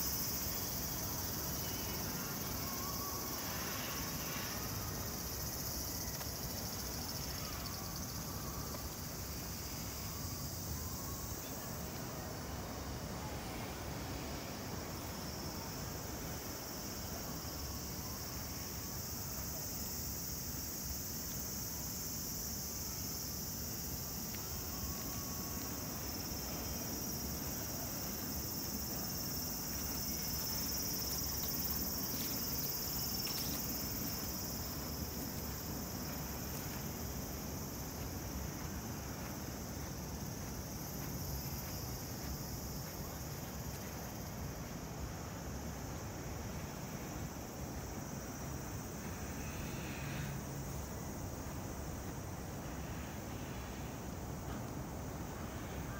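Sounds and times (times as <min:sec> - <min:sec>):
cicadas droning: 0:00.0 - 0:55.9.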